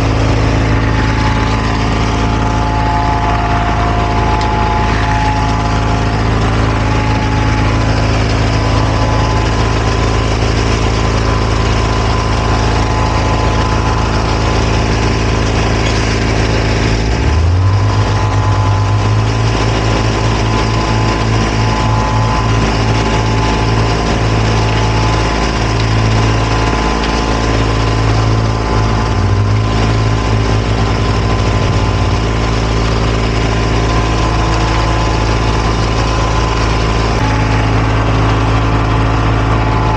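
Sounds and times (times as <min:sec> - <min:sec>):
engines humming steadily: 0:00.0 - 0:39.9
low wavering drone: 0:00.0 - 0:39.9.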